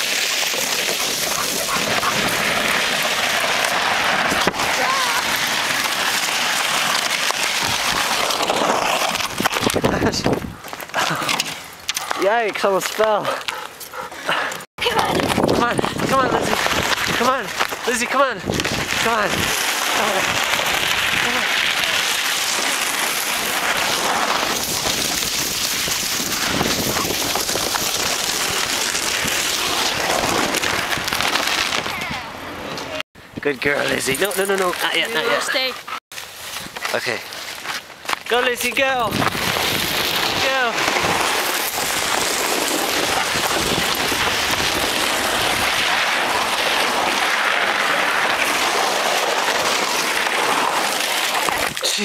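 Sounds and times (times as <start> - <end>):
plastic sled scraping on snow: 0.0 - 13.6, 14.2 - 33.0, 33.6 - 52.0.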